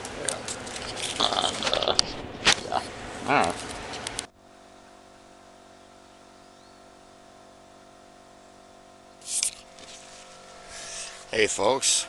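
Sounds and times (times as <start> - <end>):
faint tonal hum: 0.0 - 12.0.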